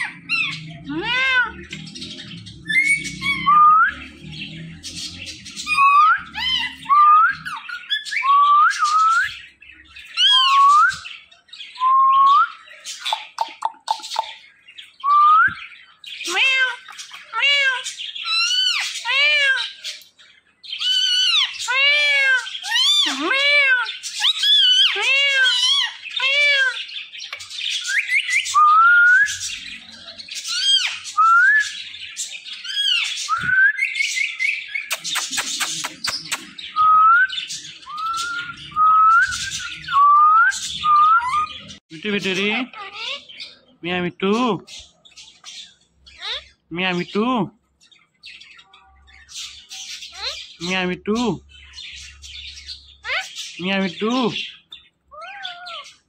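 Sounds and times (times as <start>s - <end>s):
parakeet whistles and squawks: 0.0s - 43.8s, 44.6s - 46.7s, 47.9s - 50.7s, 51.6s - 56.0s.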